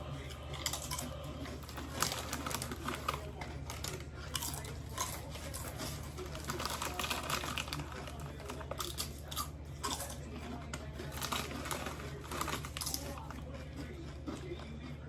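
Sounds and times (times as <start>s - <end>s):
chips being crunched and chewed: 0.0s - 15.0s.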